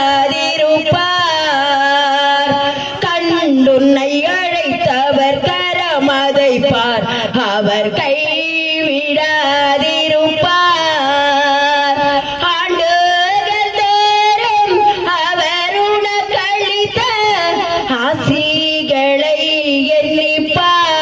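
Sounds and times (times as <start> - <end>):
woman singing into a microphone: 0.0 - 21.0.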